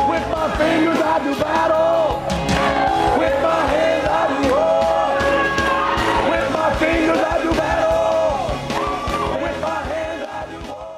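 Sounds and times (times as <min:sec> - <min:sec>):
crowd voices: 0:00.0 - 0:10.9
drums: 0:00.0 - 0:10.9
voices singing and calling out: 0:00.0 - 0:10.9.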